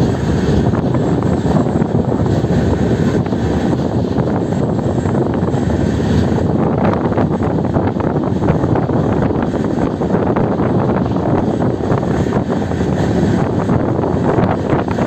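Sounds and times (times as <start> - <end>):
rushing air: 0.0 - 15.0
train clatters: 0.0 - 15.0
train wheels rumbling on rail: 0.0 - 15.0.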